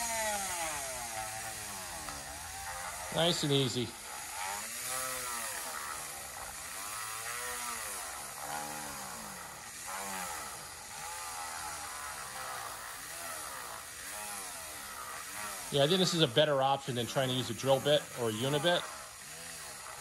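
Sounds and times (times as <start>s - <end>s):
rotary tool grinding: 0.0s - 20.0s.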